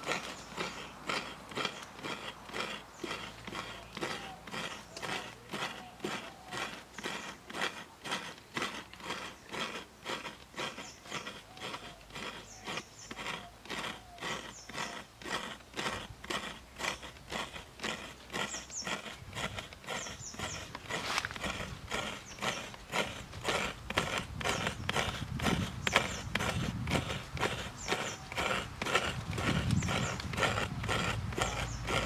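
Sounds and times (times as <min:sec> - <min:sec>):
coconut scraped on grater: 0:00.0 - 0:32.0.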